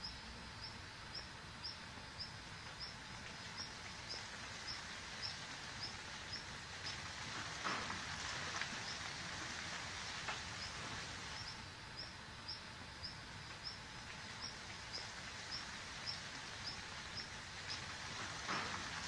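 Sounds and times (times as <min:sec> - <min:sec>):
bird chirping: 0:00.0 - 0:07.1, 0:10.5 - 0:18.8
steady hiss: 0:00.0 - 0:19.0.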